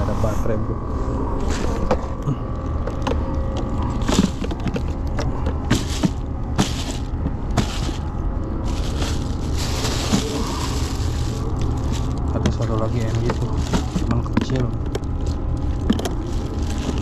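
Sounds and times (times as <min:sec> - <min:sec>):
steady low rumble: 0:00.0 - 0:17.0
plastic bag rustling: 0:01.4 - 0:17.0.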